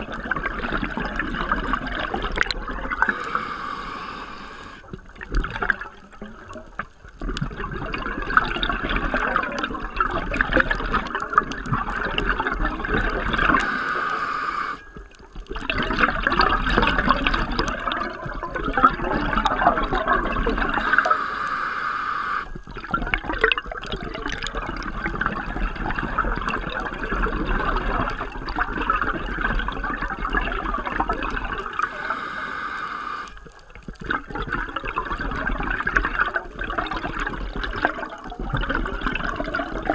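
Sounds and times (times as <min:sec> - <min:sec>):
regulator exhaust bubbles underwater: 0:00.0 - 0:14.2, 0:14.8 - 0:21.6, 0:22.4 - 0:39.9.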